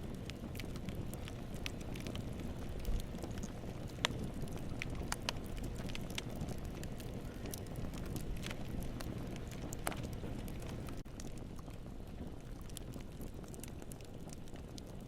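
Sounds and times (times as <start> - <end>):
fire crackling and popping: 0.0 - 15.0
rumble of campfire flames: 0.0 - 15.0.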